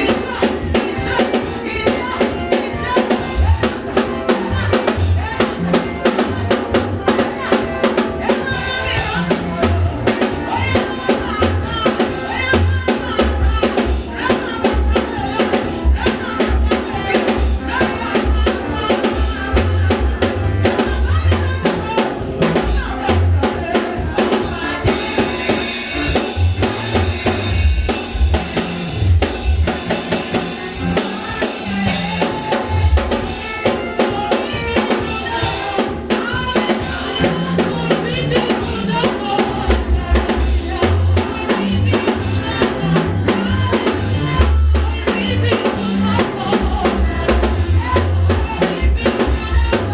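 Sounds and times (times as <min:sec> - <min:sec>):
church band music: 0:00.0 - 0:49.9
drum kit beat: 0:00.0 - 0:49.9
bass line: 0:03.4 - 0:35.5, 0:37.2 - 0:49.9.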